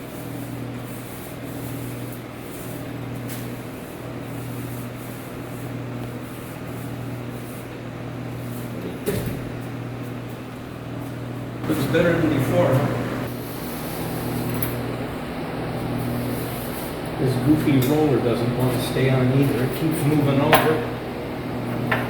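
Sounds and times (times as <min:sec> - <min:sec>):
paint roller rubbing on wall: 0:00.0 - 0:21.3
steady low hum: 0:00.0 - 0:22.0.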